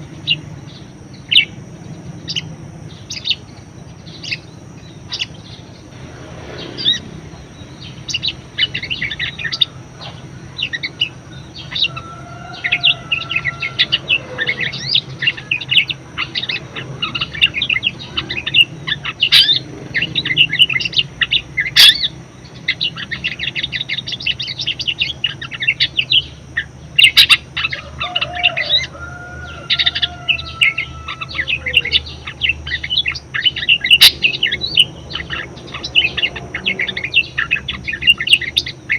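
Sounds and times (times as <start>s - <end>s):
budgerigar warbling: 2.2s - 38.9s.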